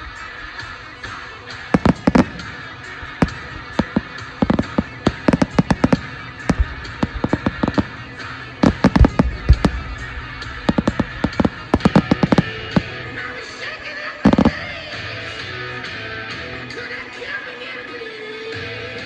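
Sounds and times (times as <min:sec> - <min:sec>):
fireworks popping and banging: 0:00.0 - 0:15.5.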